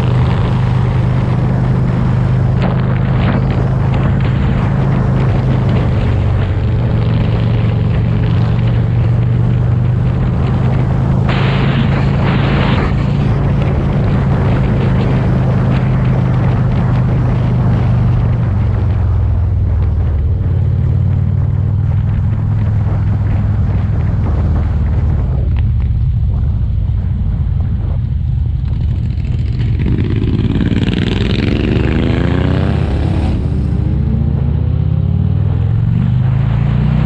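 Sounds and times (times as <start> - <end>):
motorcycle engine cruising: 0.0 - 37.0
wind rushing: 0.0 - 37.0.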